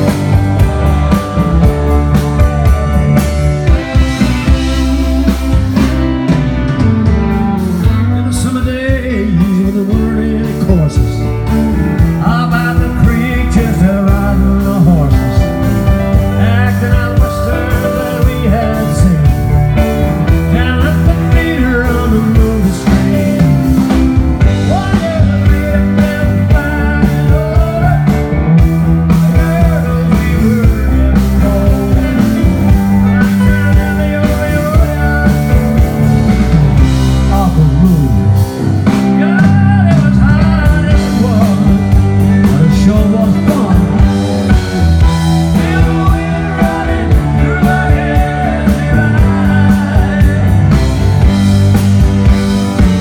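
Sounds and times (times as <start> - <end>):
blues-rock band playing: 0.0 - 53.0.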